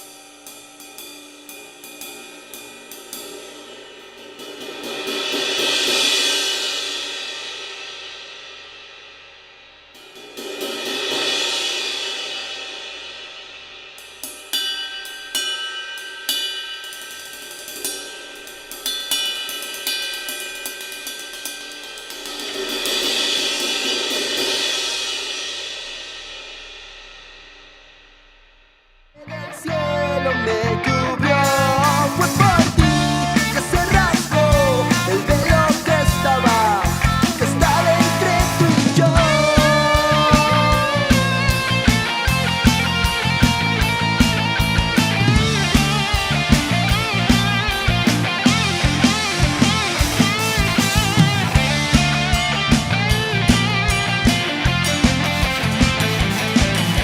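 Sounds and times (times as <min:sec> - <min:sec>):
cymbals played with sticks: 0:00.0 - 0:29.0, 0:31.4 - 0:57.0.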